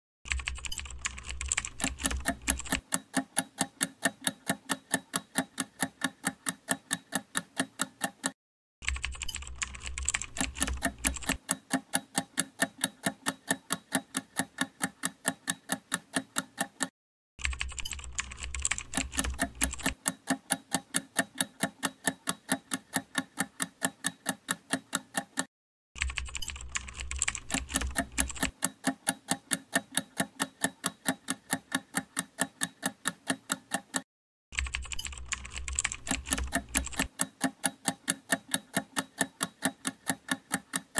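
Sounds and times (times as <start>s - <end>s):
timer ticking: 0.7s - 8.4s, 9.2s - 16.9s, 17.8s - 25.5s, 27.2s - 34.1s, 34.9s - 40.9s.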